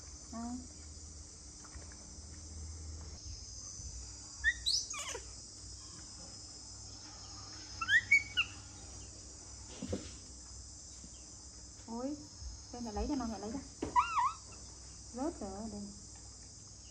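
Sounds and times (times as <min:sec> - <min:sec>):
high-pitched insect chorus: 0:00.0 - 0:16.9.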